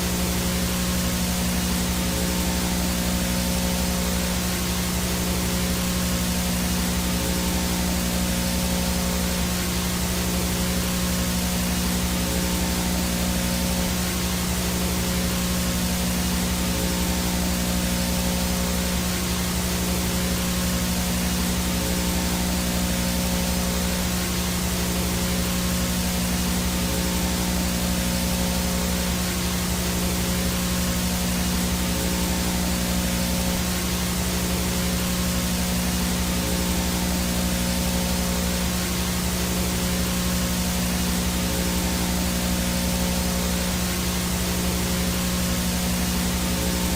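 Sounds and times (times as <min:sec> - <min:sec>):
low electrical buzz: 0:00.0 - 0:46.9
tape static hiss: 0:00.0 - 0:46.9.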